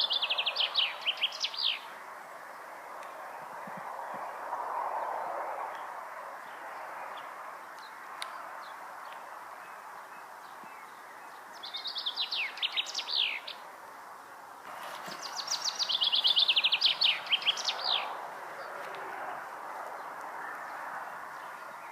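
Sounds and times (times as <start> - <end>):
songbird singing: 0.0 - 21.9.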